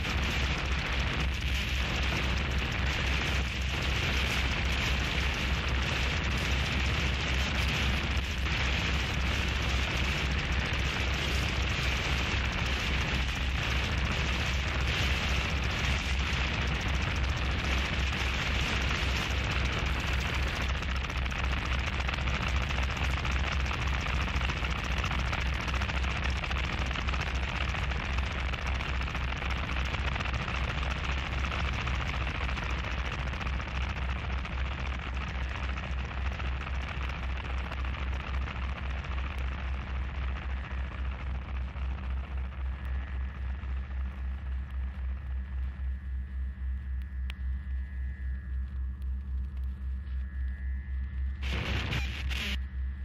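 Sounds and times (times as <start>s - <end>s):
distorted static and crackle: 0.0s - 53.0s
pulsing low rumble: 0.0s - 53.0s.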